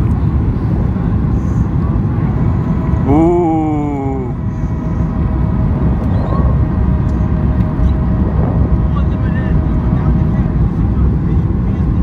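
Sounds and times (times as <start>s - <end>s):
jet engine and airflow roar: 0.0s - 12.0s.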